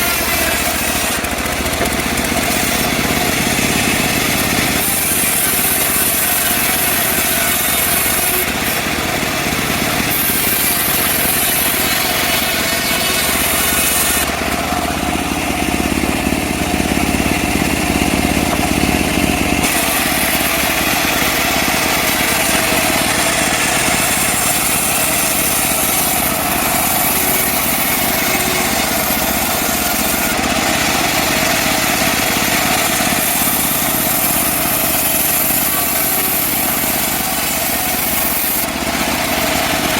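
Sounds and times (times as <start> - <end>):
band sawmill engine and cutting: 0.0 - 39.9.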